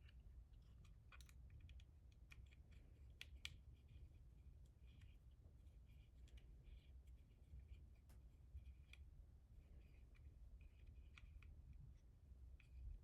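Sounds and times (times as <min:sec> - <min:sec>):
faint clicks of small parts: 0:00.0 - 0:13.0.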